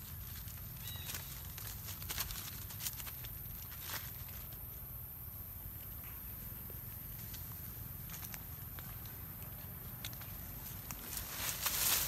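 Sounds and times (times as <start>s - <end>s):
dry leaves rustling and crackling: 0.0s - 4.9s, 7.1s - 12.0s.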